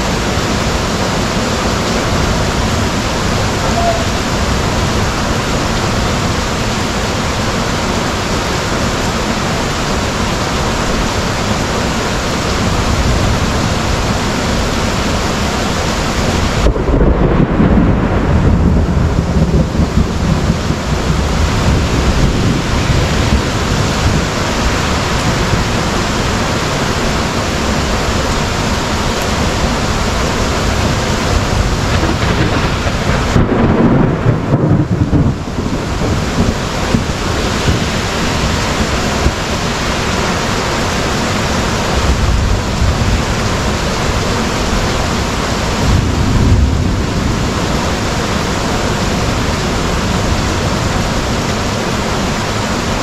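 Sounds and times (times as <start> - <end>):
heavy rain pouring: 0.0 - 53.0
thunder rumbling: 0.0 - 53.0.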